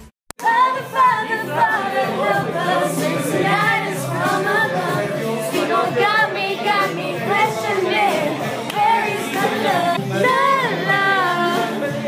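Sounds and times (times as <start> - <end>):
young women singing together: 0.4 - 12.0.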